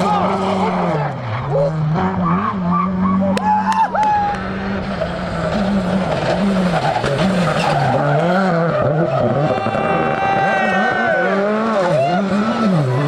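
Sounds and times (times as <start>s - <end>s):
rally car engine revving: 0.0s - 13.0s
tyres skidding: 0.0s - 13.0s.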